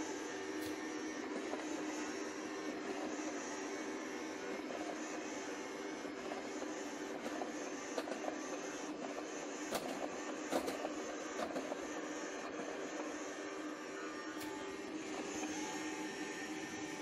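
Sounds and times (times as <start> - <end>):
robot vacuum cleaner whirring: 0.0 - 17.0.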